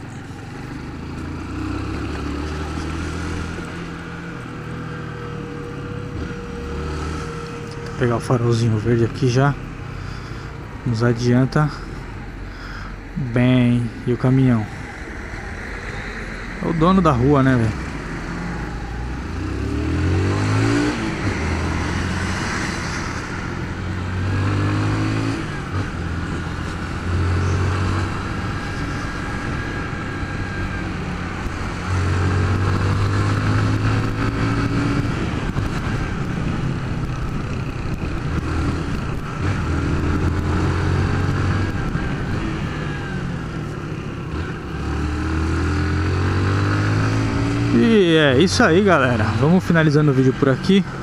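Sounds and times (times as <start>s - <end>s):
motorcycle engine revving through gears: 0.0s - 11.8s, 15.6s - 51.0s.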